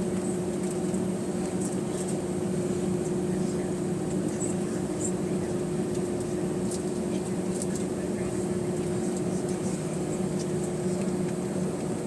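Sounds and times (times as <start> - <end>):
aircraft cabin mechanical hum: 0.0 - 12.0.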